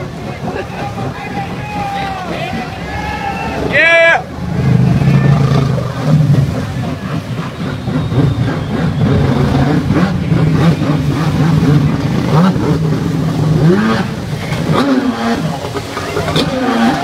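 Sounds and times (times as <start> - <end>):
jet ski engine revving: 0.0 - 17.0.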